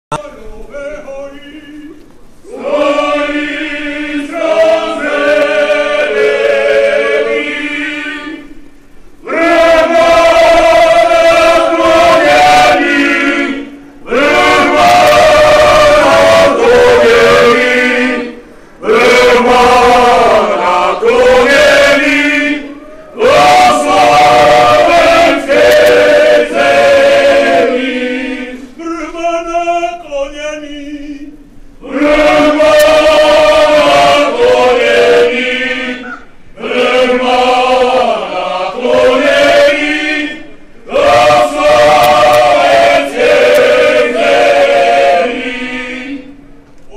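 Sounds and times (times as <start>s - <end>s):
male choir singing: 2.5s - 8.6s, 9.2s - 46.4s.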